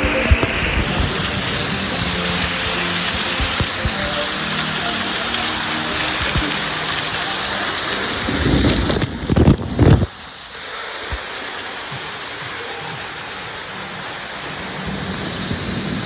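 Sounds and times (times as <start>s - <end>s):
sea surf washing: 0.0s - 16.0s.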